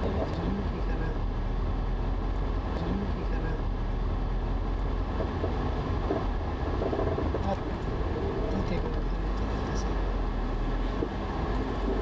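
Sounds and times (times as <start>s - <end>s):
car engine and tyre noise: 0.0s - 12.0s
surrounding traffic: 0.0s - 12.0s.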